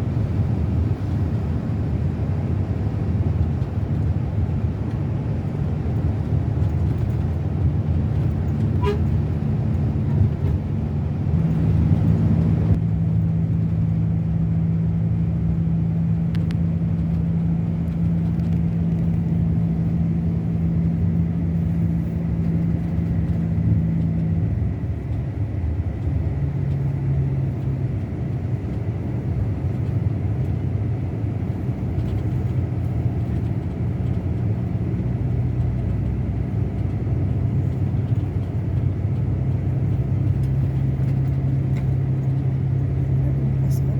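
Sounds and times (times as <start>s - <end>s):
bus engine droning: 0.0s - 43.9s.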